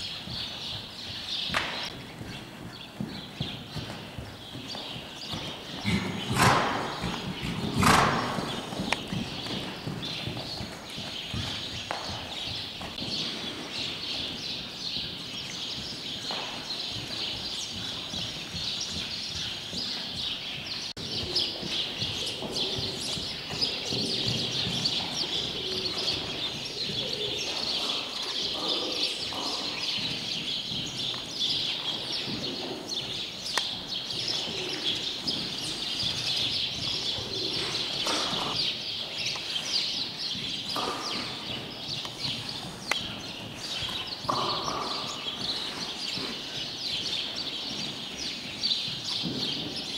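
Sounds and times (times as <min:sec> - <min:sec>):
horse trotting on sand: 0:00.0 - 0:49.9
small birds chirping: 0:00.0 - 0:49.9.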